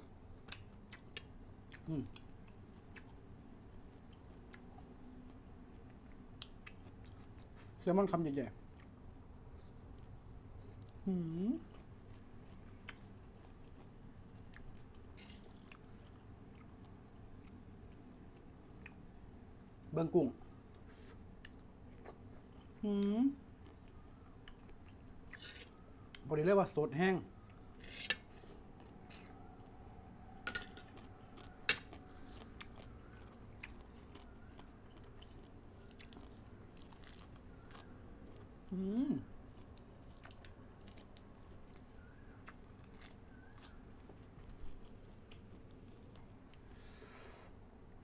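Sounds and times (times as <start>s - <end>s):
faint chewing: 0.0s - 7.8s, 8.6s - 19.2s, 19.8s - 26.3s, 27.4s - 47.5s.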